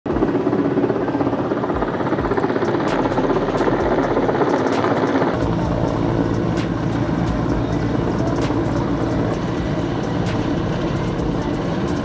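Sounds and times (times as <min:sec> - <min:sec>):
helicopter engine: 0:00.1 - 0:12.0
helicopter rotor chopping: 0:00.1 - 0:12.0.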